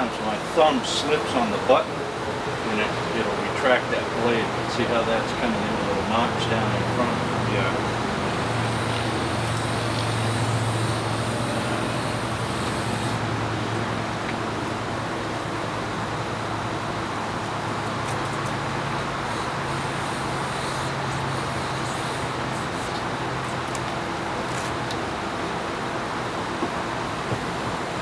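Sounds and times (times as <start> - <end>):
engine-like hum: 0.0 - 28.0
traffic-like noise: 0.0 - 28.0.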